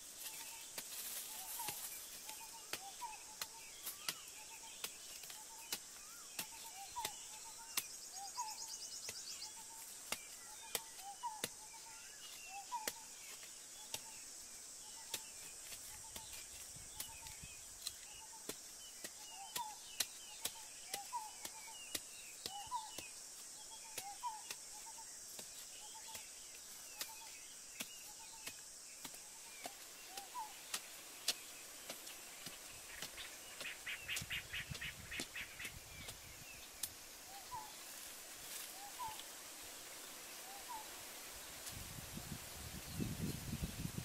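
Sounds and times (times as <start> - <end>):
birds chirping: 0.0 - 41.6
insects buzzing: 0.0 - 44.0.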